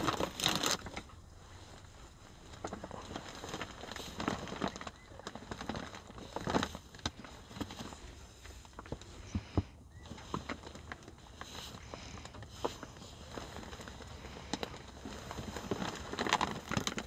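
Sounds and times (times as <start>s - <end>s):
birds rustling in dry hay: 0.0s - 17.0s.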